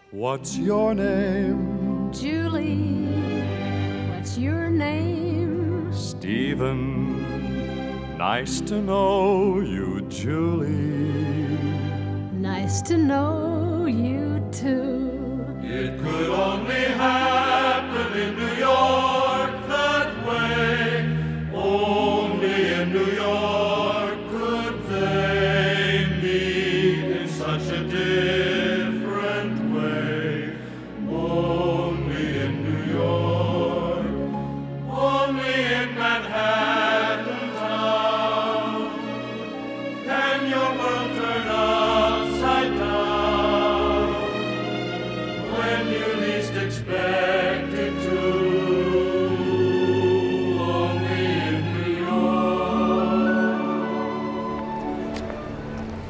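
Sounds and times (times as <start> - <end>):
choir singing with music: 0.0 - 56.0.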